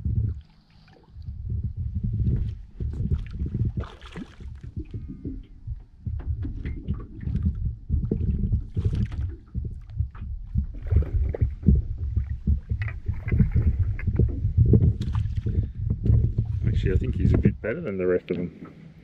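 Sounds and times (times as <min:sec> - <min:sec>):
water slapping boat hull: 0:00.0 - 0:19.0
wind rumbling on microphone: 0:00.0 - 0:19.0.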